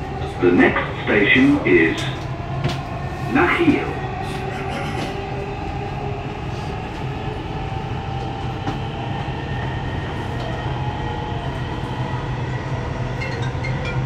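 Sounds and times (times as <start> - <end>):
train carriage rumbling hum: 0.0 - 14.0.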